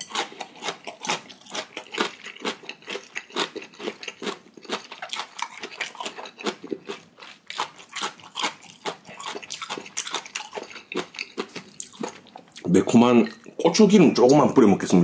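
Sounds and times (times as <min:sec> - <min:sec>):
crunchy chewing: 0:00.0 - 0:13.4.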